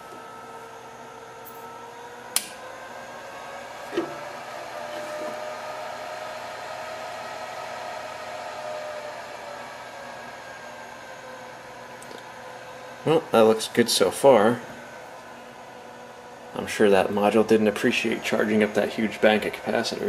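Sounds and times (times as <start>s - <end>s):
faint electrical whine: 0.0s - 20.0s.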